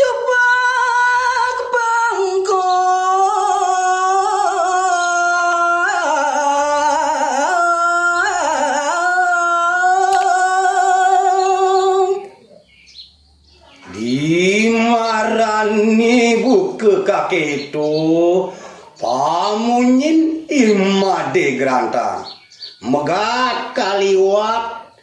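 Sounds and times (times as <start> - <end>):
solo voice chanting: 0.0 - 12.4, 13.8 - 25.0.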